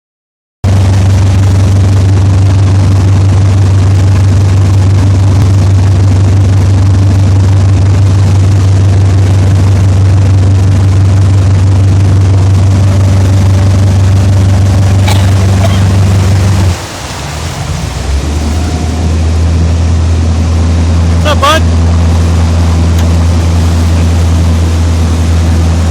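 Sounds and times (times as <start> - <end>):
motorboat engine droning: 0.6 - 25.9
water and wind noise: 0.6 - 25.9.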